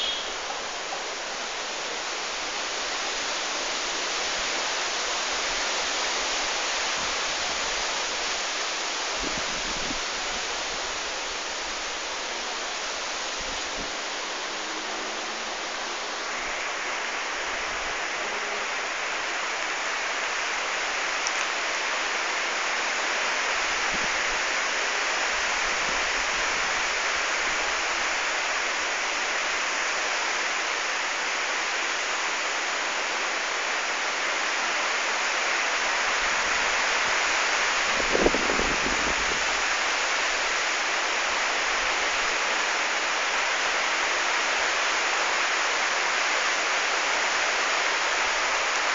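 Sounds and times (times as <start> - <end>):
heavy rain on foliage: 0.0 - 48.9.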